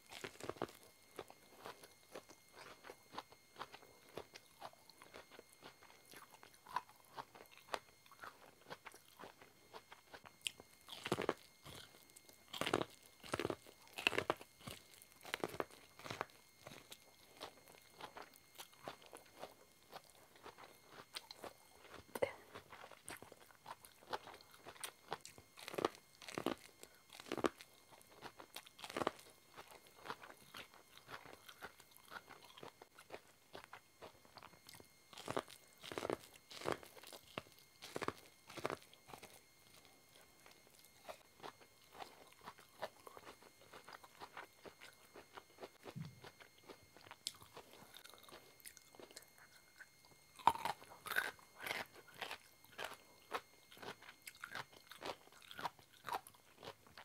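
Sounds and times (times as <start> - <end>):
biting and chewing corn: 0.0 - 57.0.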